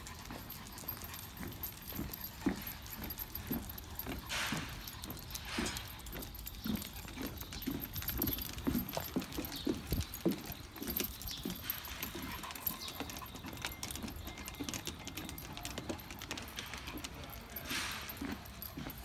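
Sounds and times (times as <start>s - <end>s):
footsteps on wooden boardwalk: 0.0s - 19.0s
light metallic jingling: 0.0s - 19.0s.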